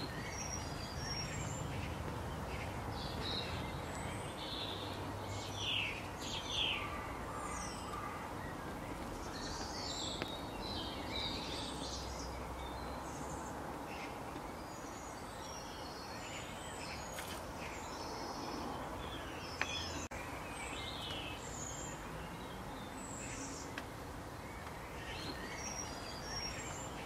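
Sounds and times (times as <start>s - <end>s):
small birds chirping: 0.0s - 27.0s
steady background hiss: 0.0s - 27.0s.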